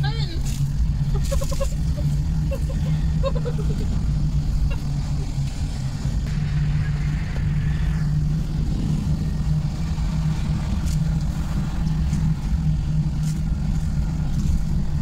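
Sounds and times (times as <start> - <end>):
road rumble: 0.0 - 15.0
vehicle engine humming: 0.0 - 15.0.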